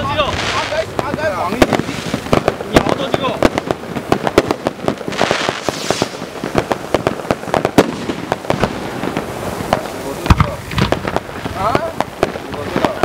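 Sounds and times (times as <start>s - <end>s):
sparkler fireworks popping and crackling: 0.0s - 13.0s
sparkler fizzing hiss: 0.0s - 13.0s.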